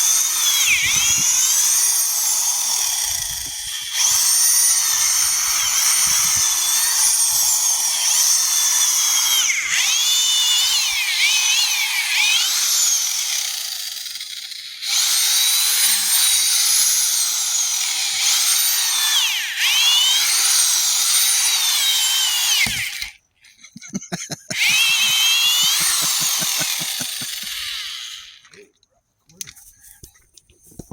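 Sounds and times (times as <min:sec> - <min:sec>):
hammer drill motor whine: 0:00.0 - 0:28.6.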